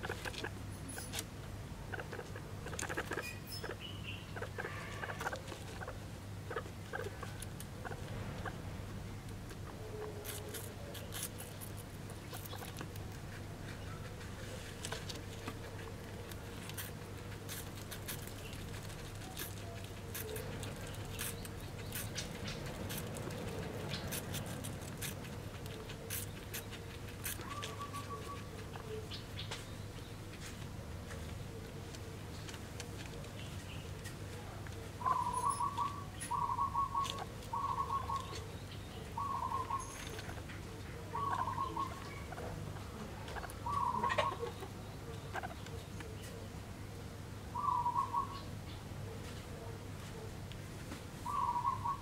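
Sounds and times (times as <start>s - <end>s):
guinea pig chewing: 0.0s - 46.4s
steady low hum: 0.0s - 52.0s.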